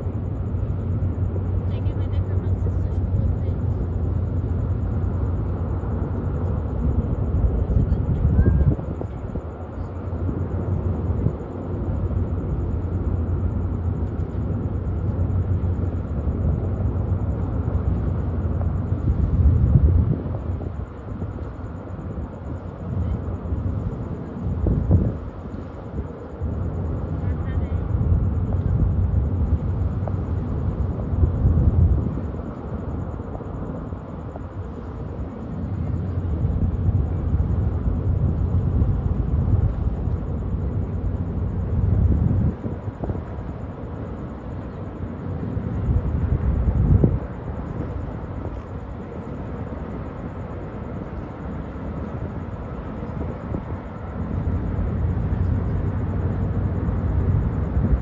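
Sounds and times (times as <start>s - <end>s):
ferry engines rumbling: 0.0s - 58.0s
wind buffeting microphone: 0.0s - 58.0s.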